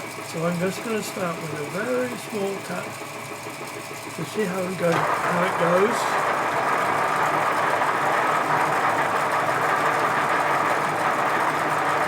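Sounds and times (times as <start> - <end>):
lathe motor whirring: 0.0 - 12.0.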